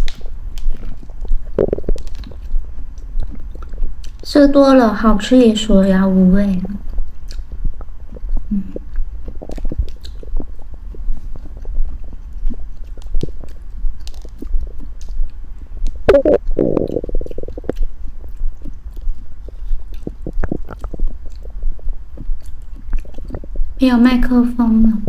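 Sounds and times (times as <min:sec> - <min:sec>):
stomach rumbling and gurgling: 0:00.0 - 0:25.0.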